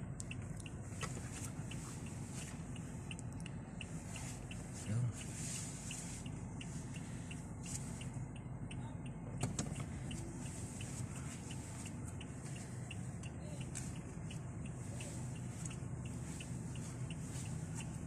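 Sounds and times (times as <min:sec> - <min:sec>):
car engine humming: 0:00.0 - 0:18.0
turn signal ticking: 0:00.0 - 0:18.0.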